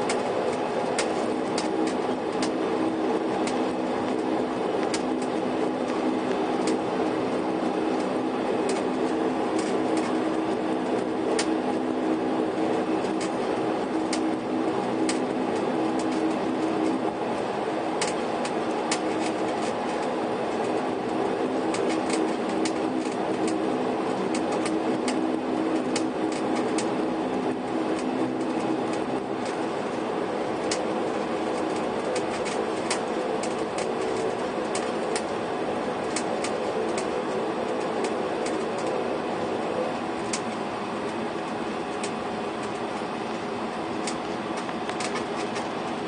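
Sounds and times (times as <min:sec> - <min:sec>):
sharp clicks and rattles: 0:00.0 - 0:11.9, 0:12.5 - 0:17.4, 0:18.0 - 0:30.0, 0:30.6 - 0:39.0, 0:39.7 - 0:43.4, 0:44.0 - 0:46.0
vehicle engine drone: 0:00.0 - 0:46.0.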